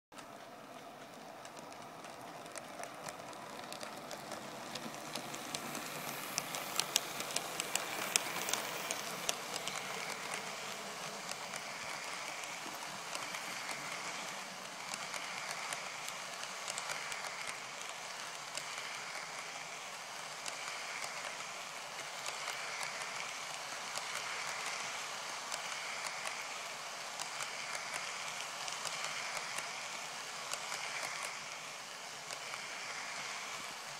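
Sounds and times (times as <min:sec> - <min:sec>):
model train rolling rattle: 0:00.2 - 0:33.9
wheels clicking over rail joints: 0:00.2 - 0:33.9.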